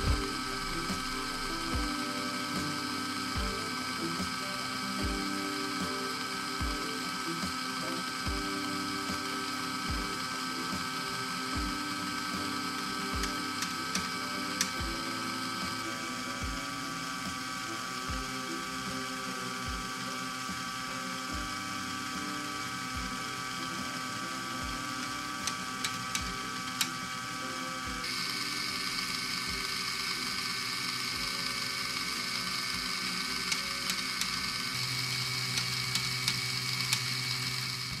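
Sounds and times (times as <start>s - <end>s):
small electric motor whirring: 0.0s - 38.0s.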